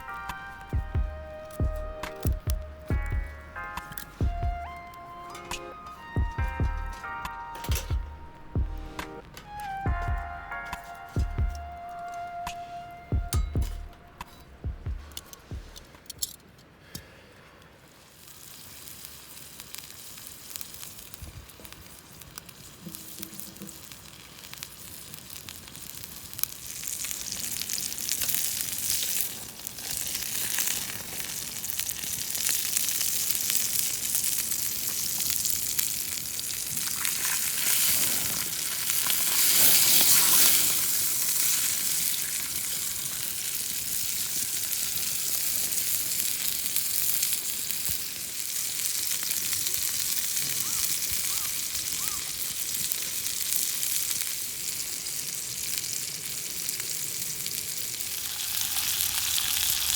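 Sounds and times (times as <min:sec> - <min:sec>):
food sizzling in a pan: 0:00.0 - 0:09.9, 0:17.9 - 0:59.9.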